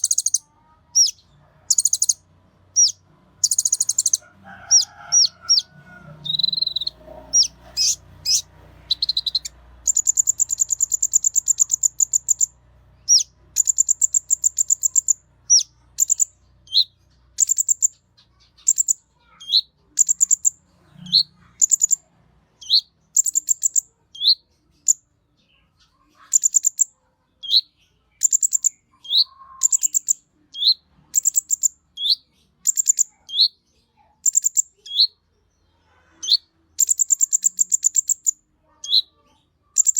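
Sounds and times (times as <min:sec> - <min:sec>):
songbird trilling: 0:00.0 - 0:02.2, 0:02.8 - 0:22.0, 0:22.6 - 0:25.0, 0:26.2 - 0:33.6, 0:34.2 - 0:35.2, 0:36.2 - 0:39.2.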